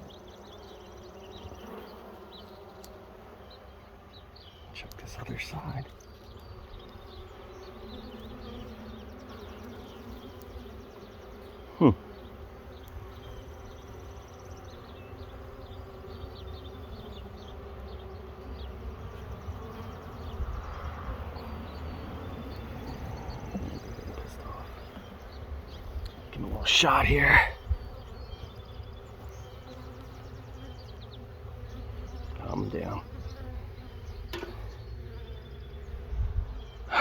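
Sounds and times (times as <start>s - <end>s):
honey bees buzzing: 0.0s - 37.0s.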